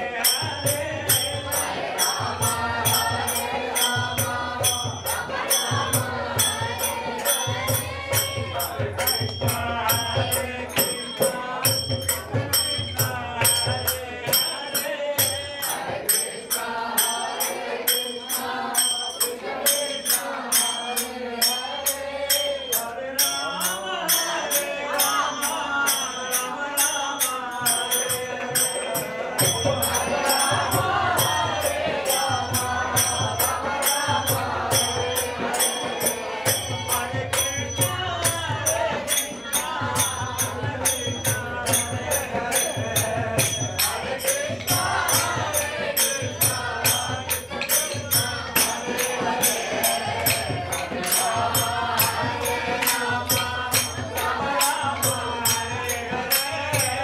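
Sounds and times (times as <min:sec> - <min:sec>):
group devotional singing: 0:00.0 - 0:57.0
small hand cymbals: 0:00.0 - 0:57.0.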